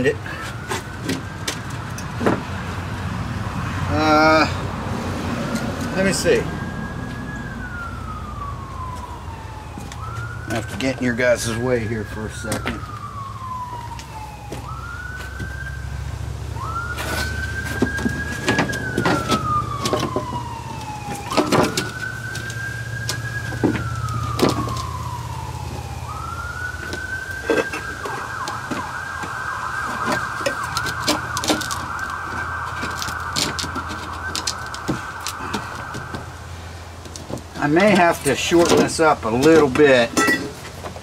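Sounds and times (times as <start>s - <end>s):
emergency siren wailing: 0.0s - 40.9s.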